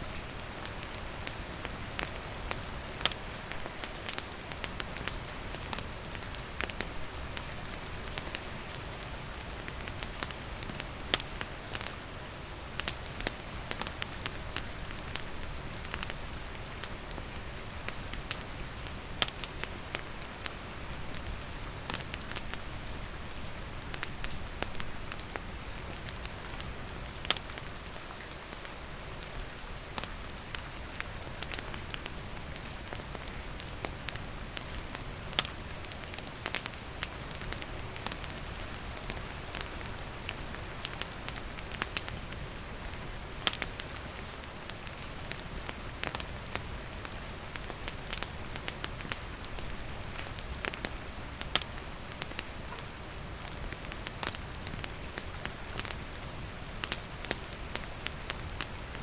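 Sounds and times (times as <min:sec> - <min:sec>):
campfire crackling: 0:00.0 - 0:59.0
steady rain falling: 0:00.0 - 0:59.0.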